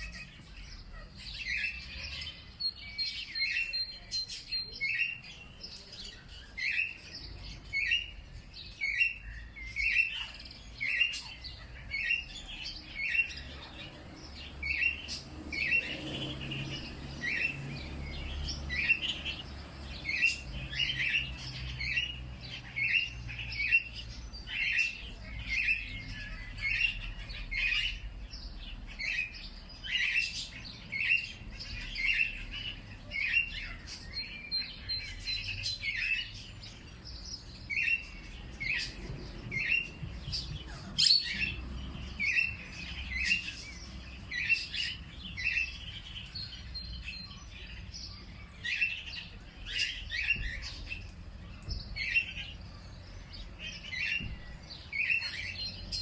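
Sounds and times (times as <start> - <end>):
faint bird calls: 0.0 - 56.0.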